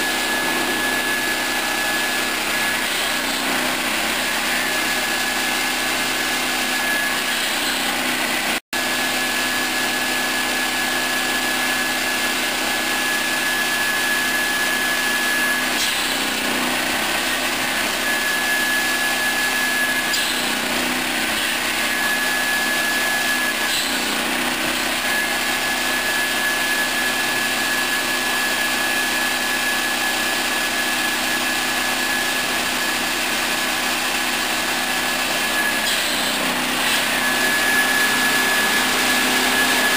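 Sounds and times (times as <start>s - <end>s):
circular saw blade whine: 0.0s - 39.9s
saw blade cutting log: 0.0s - 39.9s.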